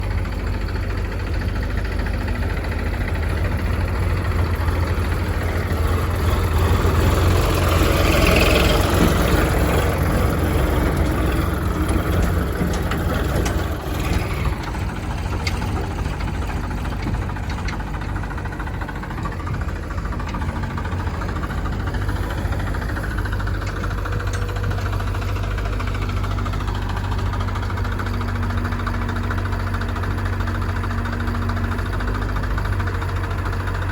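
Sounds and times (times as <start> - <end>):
diesel engine rumbling: 0.0 - 33.9.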